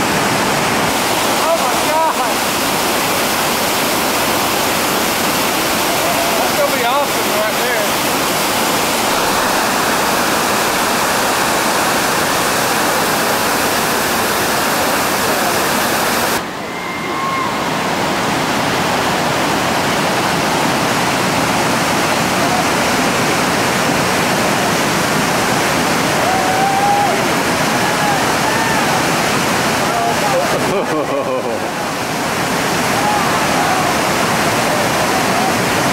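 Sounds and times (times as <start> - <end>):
whitewater rapid roaring: 0.0 - 35.9.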